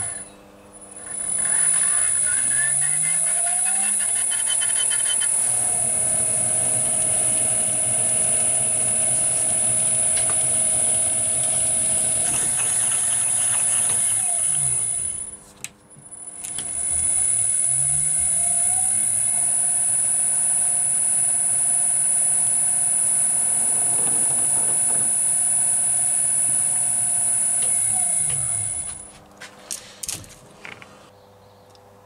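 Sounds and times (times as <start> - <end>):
lathe motor running: 0.9 - 15.4, 16.3 - 29.1.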